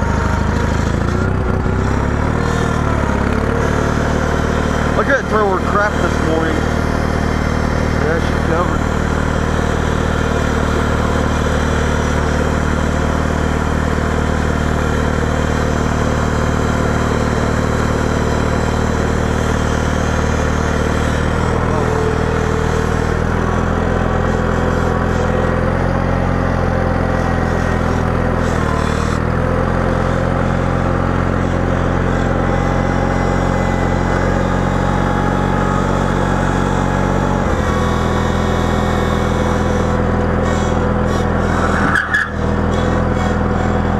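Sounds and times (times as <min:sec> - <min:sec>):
garden tractor engine running: 0:00.0 - 0:43.9.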